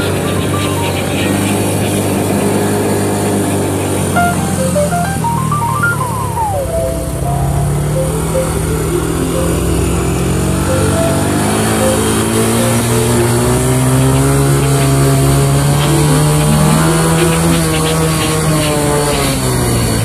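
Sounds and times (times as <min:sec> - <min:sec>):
atv engine accelerating: 0:00.0 - 0:20.0.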